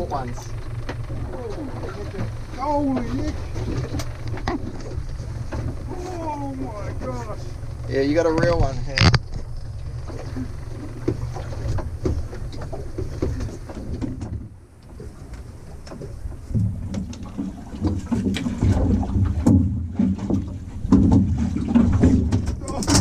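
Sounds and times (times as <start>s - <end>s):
short knocks and clatter: 0.0s - 5.9s, 7.0s - 15.1s, 15.8s - 23.0s
boat engine idling: 0.0s - 23.0s.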